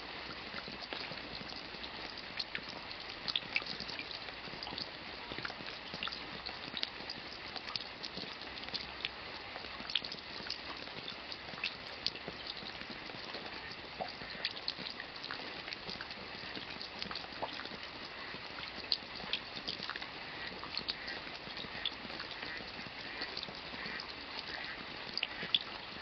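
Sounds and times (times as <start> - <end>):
steady rain hiss: 0.0 - 26.0
raindrops tapping: 0.4 - 26.0.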